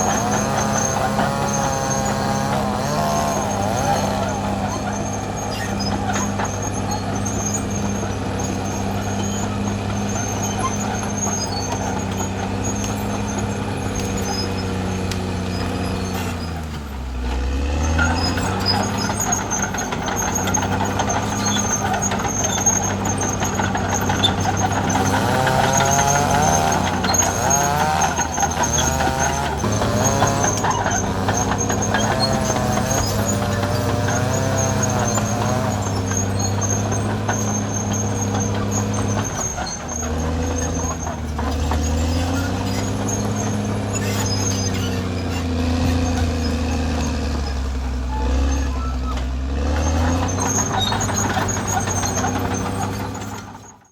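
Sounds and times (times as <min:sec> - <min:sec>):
wavering squeal: 0:00.0 - 0:53.8
bulldozer diesel engine running: 0:00.0 - 0:53.9.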